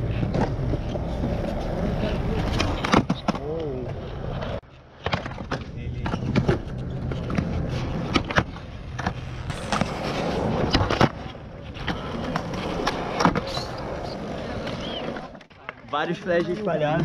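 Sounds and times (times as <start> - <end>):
skateboard wheels rolling on concrete: 0.0 - 17.0.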